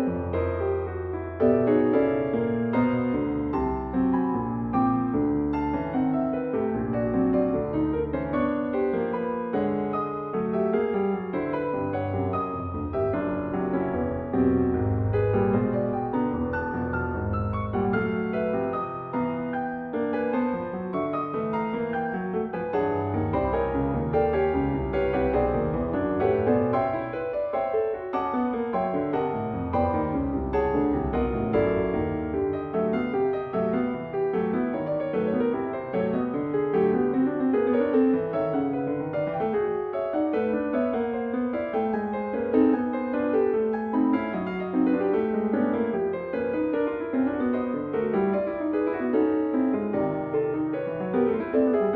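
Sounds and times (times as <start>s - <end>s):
deep piano bass notes: 0.0s - 51.9s
solo piano quick notes: 0.0s - 51.9s.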